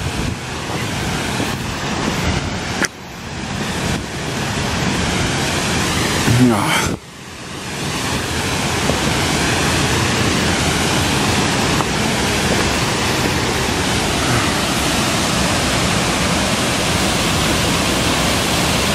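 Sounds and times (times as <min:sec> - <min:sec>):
waterfall pouring into pool: 0:00.0 - 0:18.9.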